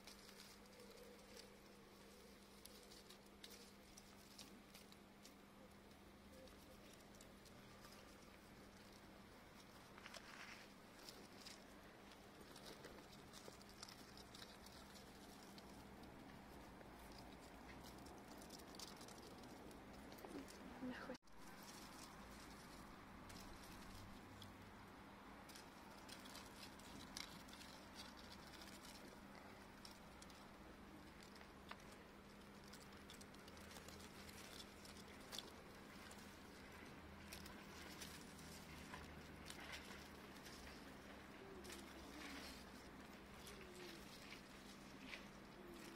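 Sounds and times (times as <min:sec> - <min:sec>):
low steady hum: 0:00.0 - 0:45.9
rustles of dry grass and leaves: 0:00.0 - 0:45.9.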